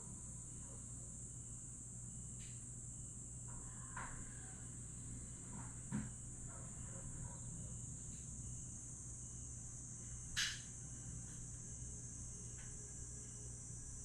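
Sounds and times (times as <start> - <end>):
crickets chirping: 0.0 - 14.0
low steady hum: 0.0 - 14.0.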